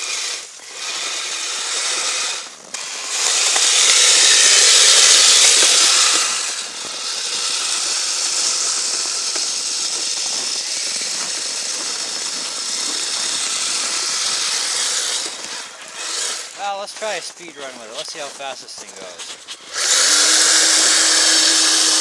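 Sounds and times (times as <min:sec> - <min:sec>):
toy vehicle tracks clattering: 0:00.0 - 0:22.0.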